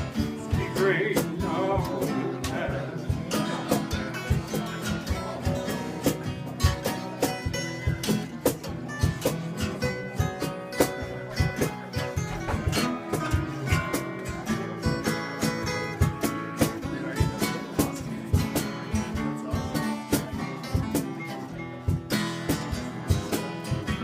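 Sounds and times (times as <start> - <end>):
acoustic guitar blues: 0.0 - 24.0.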